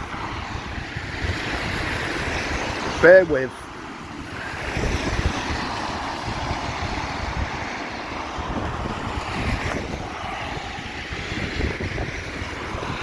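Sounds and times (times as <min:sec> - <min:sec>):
traffic on wet road: 0:00.0 - 0:13.0
wind buffeting microphone: 0:00.0 - 0:13.0.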